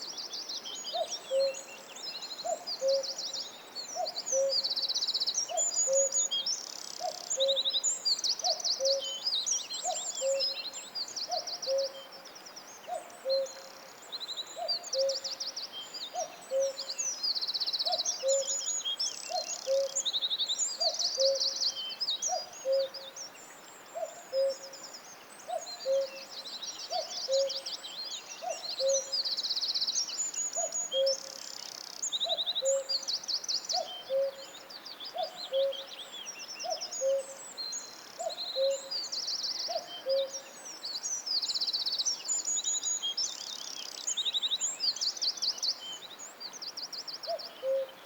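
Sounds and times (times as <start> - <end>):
small birds trilling and chirping: 0.0 - 48.0.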